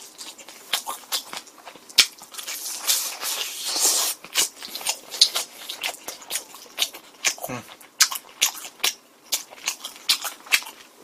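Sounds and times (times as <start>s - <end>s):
chewing crunchy fried chicken: 0.0s - 11.0s.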